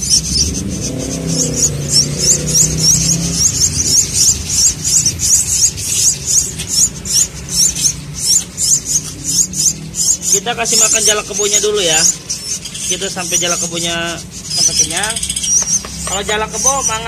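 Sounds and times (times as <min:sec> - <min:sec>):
nestlings begging cheeps: 0:00.0 - 0:17.0.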